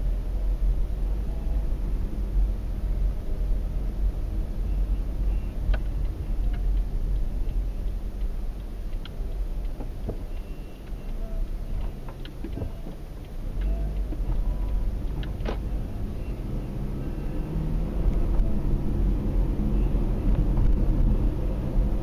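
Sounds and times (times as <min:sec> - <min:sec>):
car tyre and engine rumble: 0:00.0 - 0:22.0.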